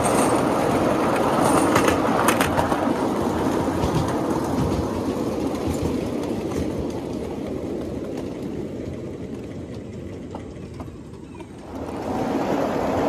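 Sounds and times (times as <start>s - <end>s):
train cars rumbling on rails: 0.0s - 13.0s.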